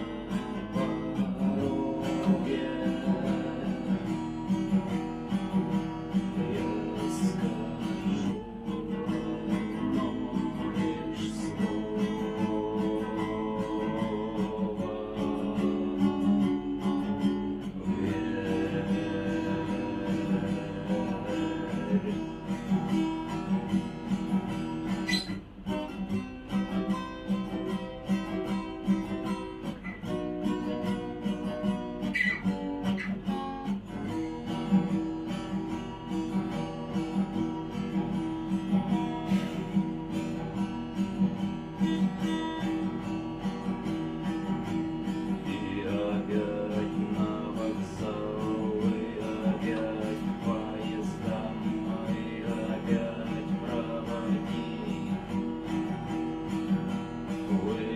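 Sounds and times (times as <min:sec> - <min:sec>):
acoustic guitar strumming: 0:00.0 - 0:57.9.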